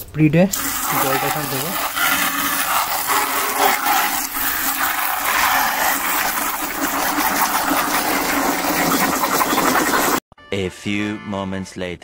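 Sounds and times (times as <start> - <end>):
water jet splashing into bucket: 0.5 - 10.2.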